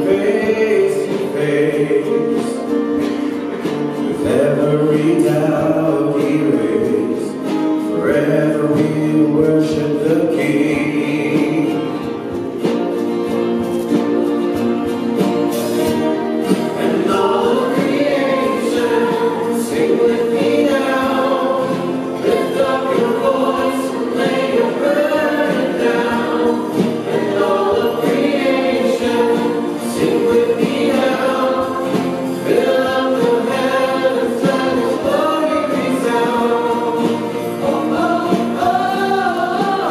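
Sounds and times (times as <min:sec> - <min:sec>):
choir singing worship song: 0:00.0 - 0:12.4, 0:15.7 - 0:39.9
instrumental accompaniment: 0:00.0 - 0:39.9.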